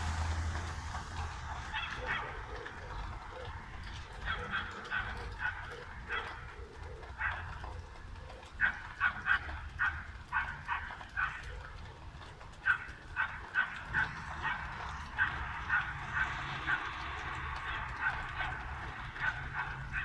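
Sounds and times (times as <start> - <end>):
dog barking: 1.7 - 17.0, 17.6 - 20.0.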